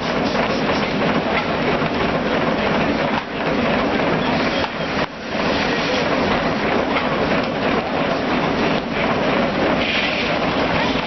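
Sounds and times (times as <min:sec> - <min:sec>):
sawmill machinery clatter: 0:00.0 - 0:11.0.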